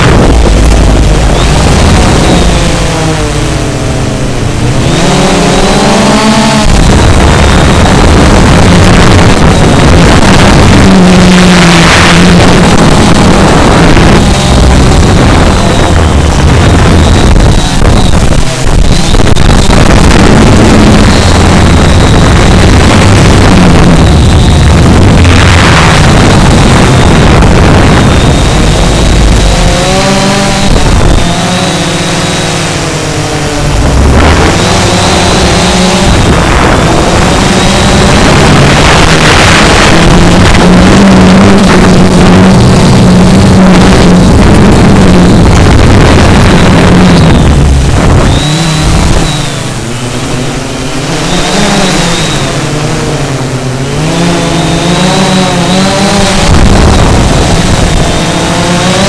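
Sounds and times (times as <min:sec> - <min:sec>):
quadcopter propellers buzzing: 0:00.0 - 0:59.0
rough noise: 0:00.0 - 0:59.0.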